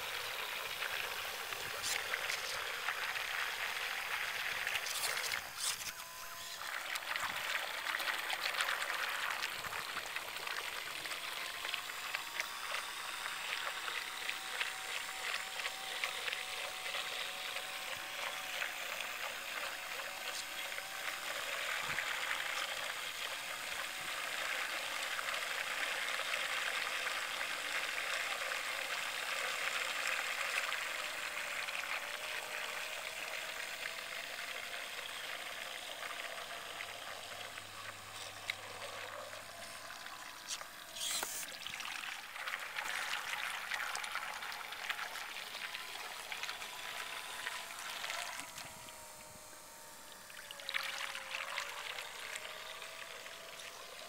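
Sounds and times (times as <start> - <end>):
faint motor whine: 0.0 - 54.0
water churning from propeller: 0.0 - 54.0.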